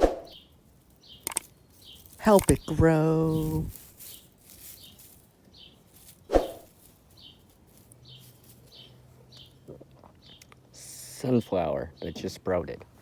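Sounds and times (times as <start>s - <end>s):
bird chirping: 0.0s - 10.6s.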